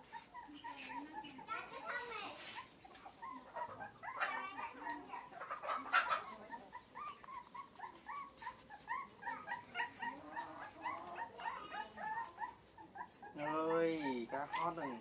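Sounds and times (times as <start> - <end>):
puppy whimpering: 0.0 - 1.5, 2.4 - 15.0.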